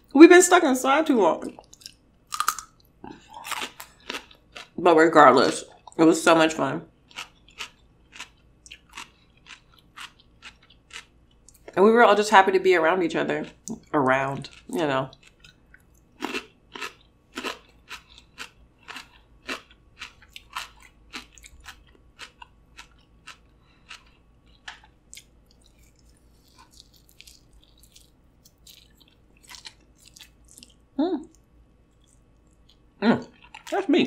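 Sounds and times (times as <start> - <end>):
chewing and crunching food: 1.4 - 6.0, 6.9 - 11.8, 13.2 - 33.9.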